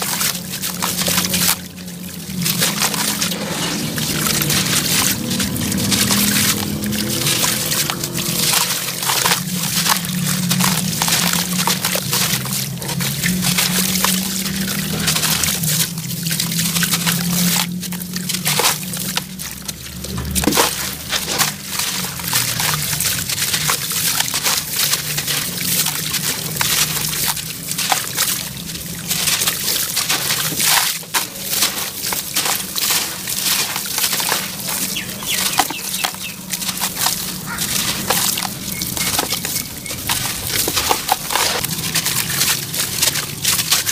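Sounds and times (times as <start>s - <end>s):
gritty sand crumbling into water: 0.0s - 43.9s.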